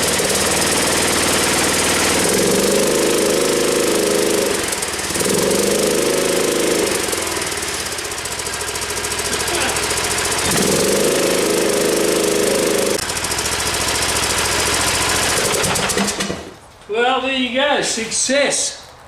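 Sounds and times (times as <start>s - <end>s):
ride-on mower engine running: 0.0s - 16.7s.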